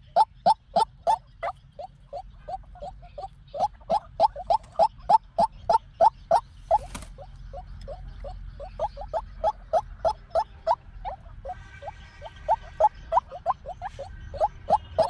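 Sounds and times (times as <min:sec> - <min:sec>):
bird calling hoarse notes: 0:00.0 - 0:15.0.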